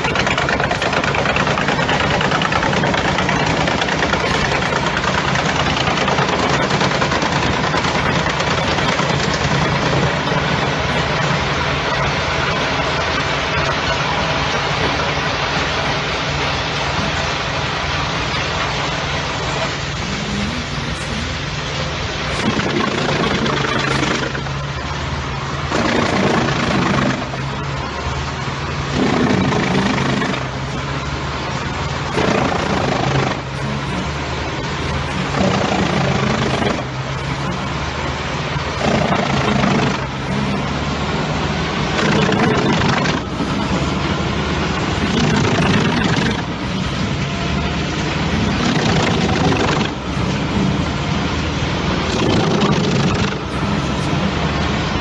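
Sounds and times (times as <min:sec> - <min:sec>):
wood chipper chipping logs: 0:00.0 - 0:55.0.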